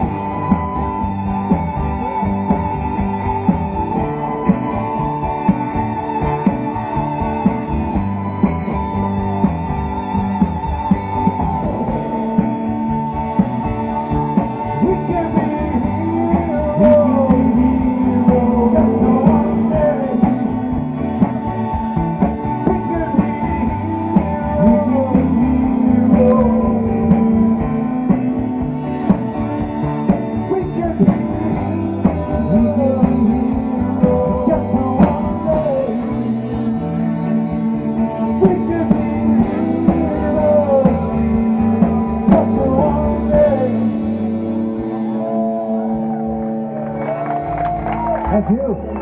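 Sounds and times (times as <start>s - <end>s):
drum kit beat: 0.0s - 48.2s
electric guitar melody: 0.0s - 49.0s.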